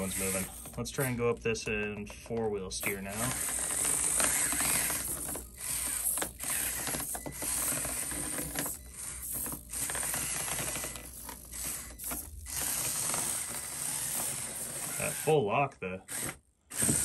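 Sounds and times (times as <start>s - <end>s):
electric motor and gears whirring: 0.0s - 17.0s.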